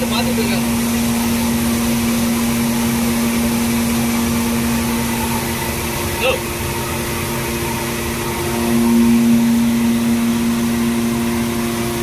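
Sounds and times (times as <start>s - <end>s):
grain churning in machine: 0.0s - 12.0s
machinery humming: 0.0s - 12.0s.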